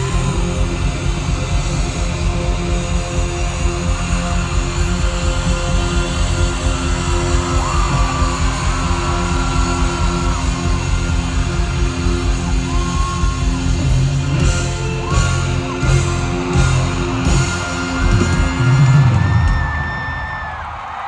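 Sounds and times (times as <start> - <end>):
live rock band playing: 0.0 - 19.9
electric guitar: 0.0 - 20.2.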